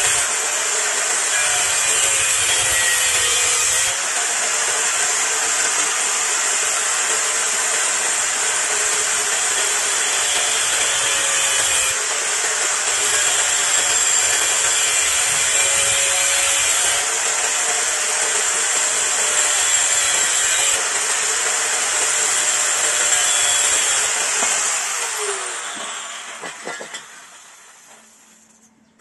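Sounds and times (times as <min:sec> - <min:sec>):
angle grinder grinding metal: 0:00.0 - 0:28.7.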